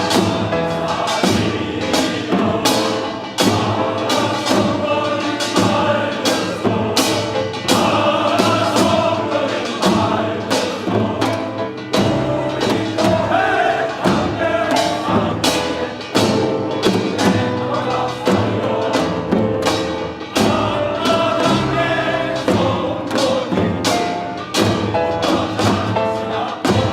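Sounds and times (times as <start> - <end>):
choir singing: 0.0 - 26.9
instrumental accompaniment: 0.0 - 26.9
percussion strikes: 0.0 - 26.9.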